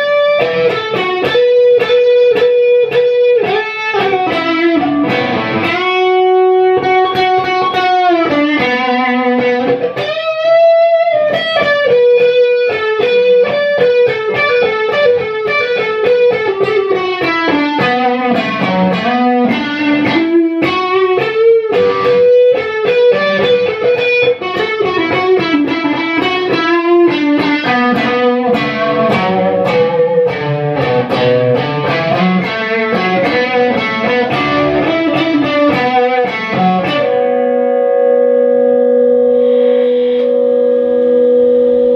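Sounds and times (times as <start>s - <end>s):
electric guitar lead line: 0.0s - 41.9s.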